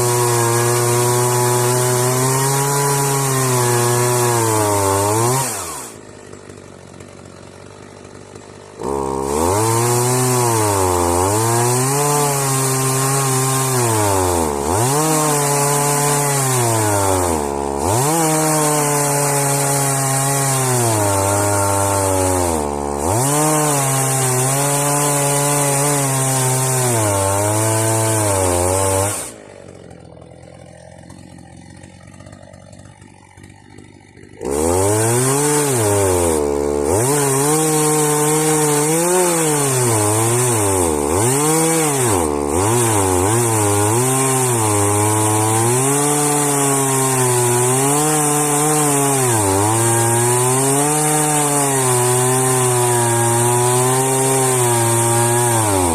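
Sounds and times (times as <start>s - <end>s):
chainsaw cutting log: 0.0s - 55.9s.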